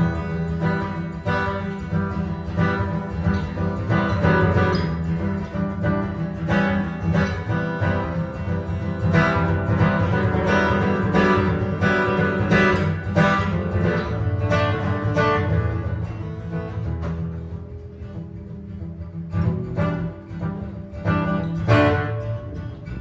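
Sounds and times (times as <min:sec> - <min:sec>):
jazz guitar playing: 0:00.0 - 0:23.0.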